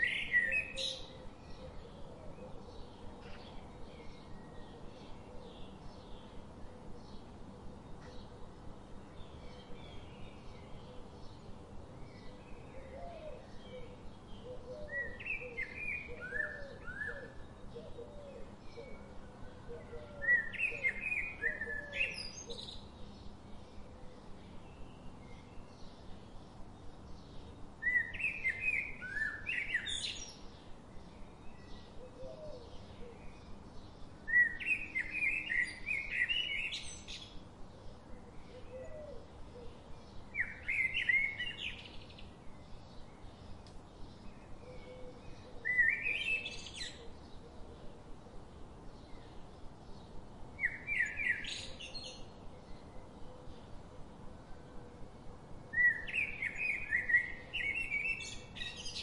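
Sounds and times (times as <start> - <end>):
bird song chirpy warbles: 0.0 - 59.0.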